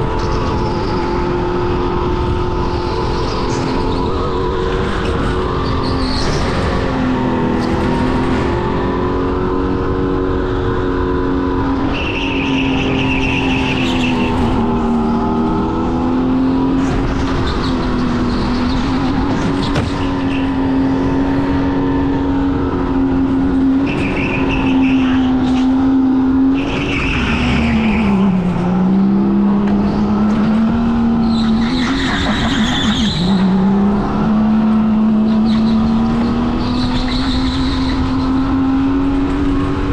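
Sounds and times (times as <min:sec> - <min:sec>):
go-kart motor running hard: 0:00.0 - 0:39.9.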